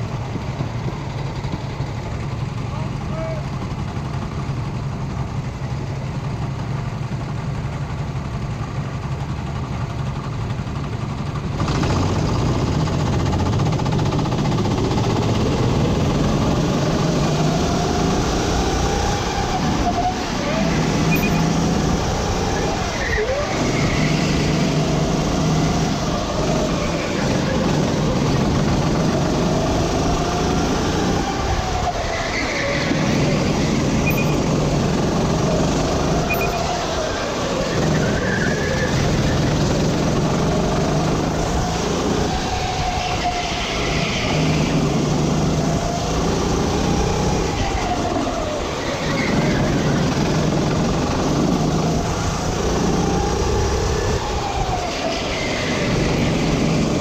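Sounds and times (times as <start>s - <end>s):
kart engine revving: 9.1s - 57.0s.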